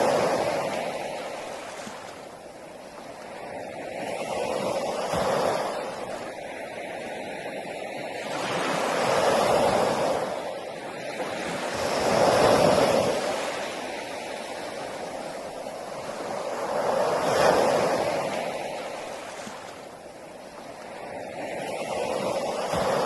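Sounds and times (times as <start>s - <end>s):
sea waves breaking on a beach: 0.0s - 23.0s.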